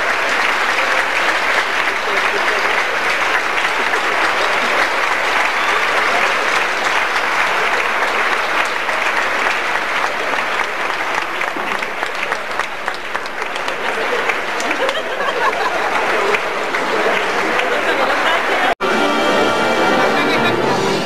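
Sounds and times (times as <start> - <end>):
crowd applauding: 0.0 - 21.0.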